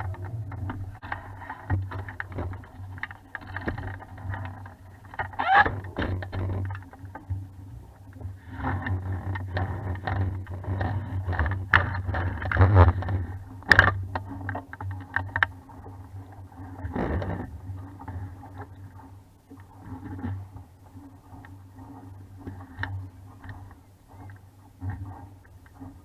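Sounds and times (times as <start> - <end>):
boat knocks and clatters: 0.0 - 26.0
steady low rumble: 0.0 - 26.0
water along boat hull: 0.0 - 26.0.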